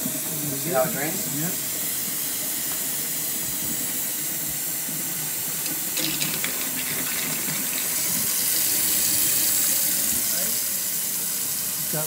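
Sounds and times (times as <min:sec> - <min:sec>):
faucet running into steel sink: 0:00.2 - 0:12.0.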